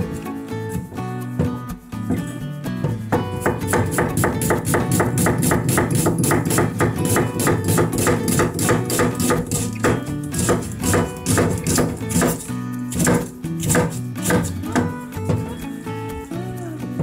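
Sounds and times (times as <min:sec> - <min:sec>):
acoustic guitar music: 0:00.0 - 0:17.0
knife chopping on cutting board: 0:00.7 - 0:15.5.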